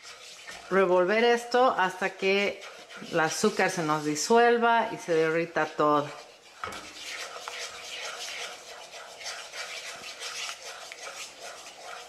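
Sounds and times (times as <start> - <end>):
wooden spoon scraping saucepan: 0.0 - 12.0.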